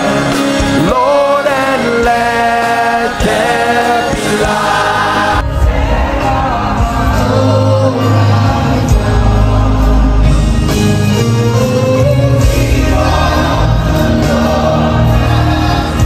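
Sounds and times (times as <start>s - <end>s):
gospel music with singing: 0.0s - 16.0s
live choir and band: 0.0s - 16.0s.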